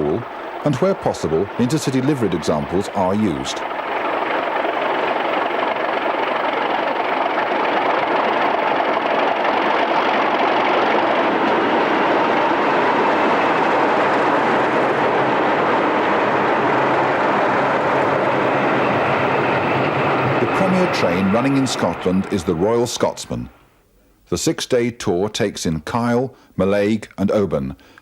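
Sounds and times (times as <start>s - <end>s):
diesel locomotive engine: 0.0s - 23.9s.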